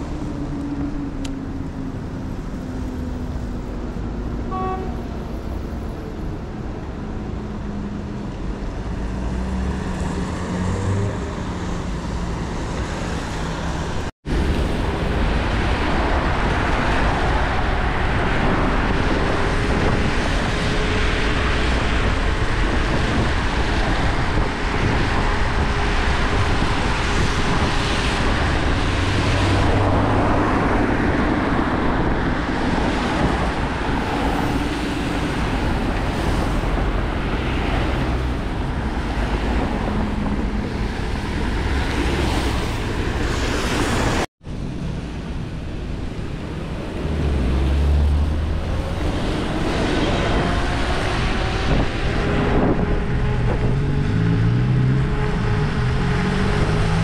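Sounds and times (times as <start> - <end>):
road traffic: 0.0 - 57.0
wind rushing over microphone: 0.0 - 57.0.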